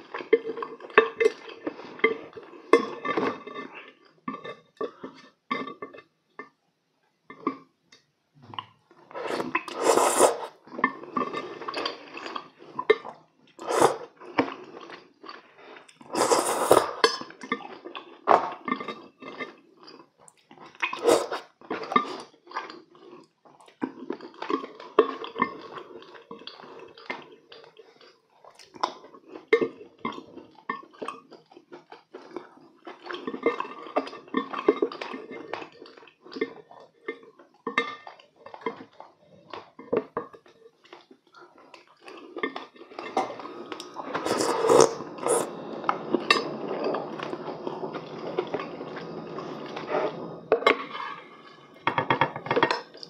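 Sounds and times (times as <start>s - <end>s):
wet chewing and slurping: 9.1s - 51.9s.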